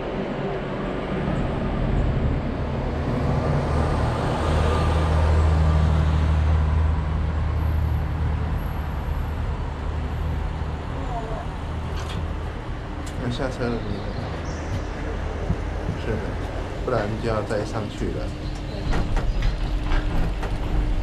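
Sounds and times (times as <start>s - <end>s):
cable car mechanical hum: 0.0s - 21.0s.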